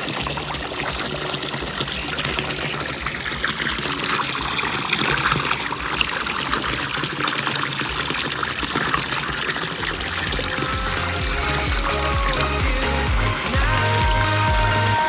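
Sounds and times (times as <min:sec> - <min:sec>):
water pouring and splashing into tank: 0:00.0 - 0:14.9.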